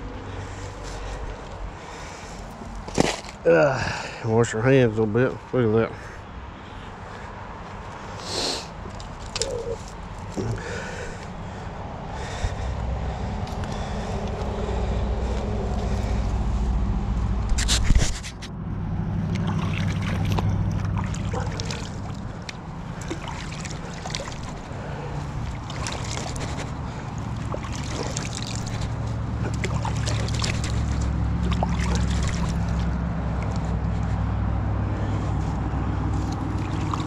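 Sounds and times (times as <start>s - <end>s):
water splashing and sloshing: 0.0s - 4.2s, 6.0s - 18.4s, 19.1s - 37.0s.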